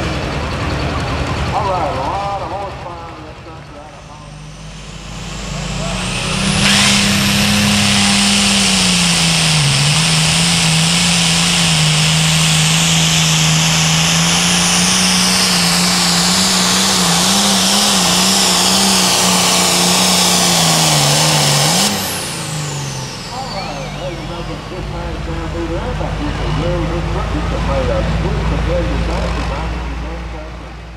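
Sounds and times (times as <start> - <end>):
diesel tractor engine at full throttle: 0.0 - 30.9.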